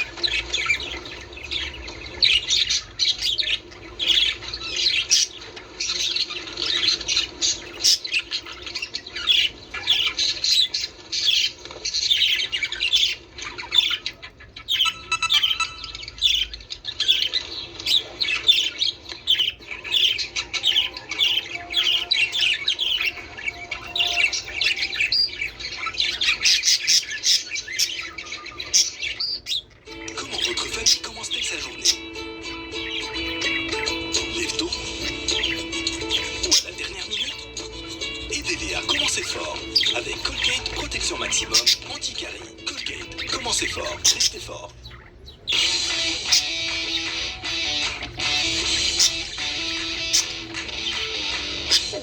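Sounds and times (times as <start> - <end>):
budgerigars chattering: 0.0 - 52.0.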